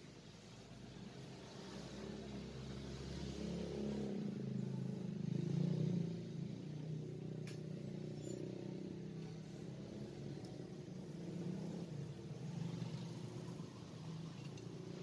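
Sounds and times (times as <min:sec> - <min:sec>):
vehicle engine passing by: 0:01.0 - 0:15.0.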